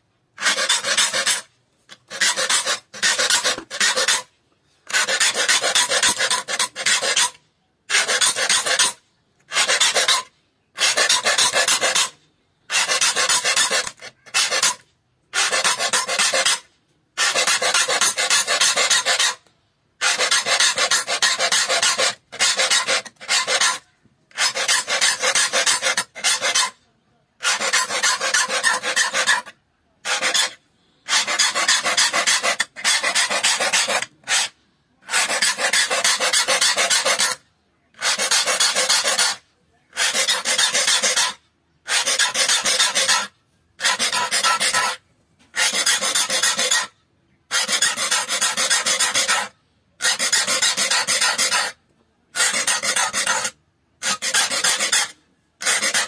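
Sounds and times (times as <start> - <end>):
file rasping on saw teeth: 0.4 - 26.8, 27.4 - 45.0, 45.6 - 56.0.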